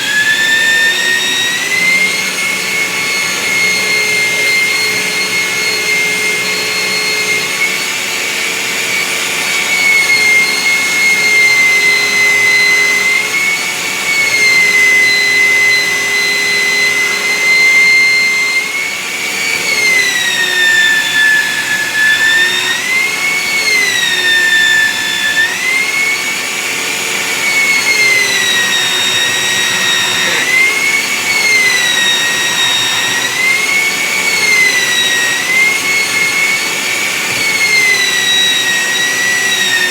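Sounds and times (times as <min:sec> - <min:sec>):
electric sander motor whine: 0:00.0 - 0:39.9.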